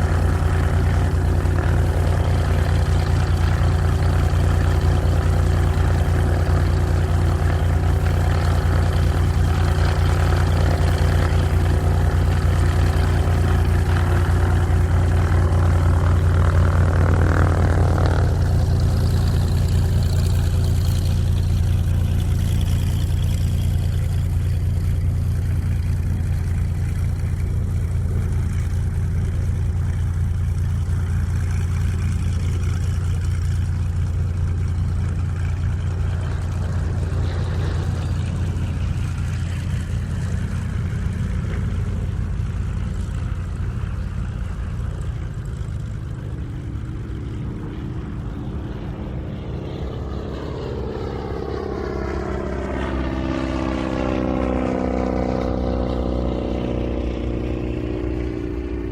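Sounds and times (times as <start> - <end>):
propeller airplane engine droning: 0.0 - 58.9.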